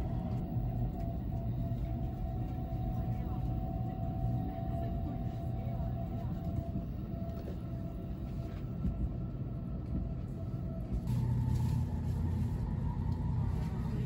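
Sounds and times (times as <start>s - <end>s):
train cabin low rumble: 0.0s - 14.0s.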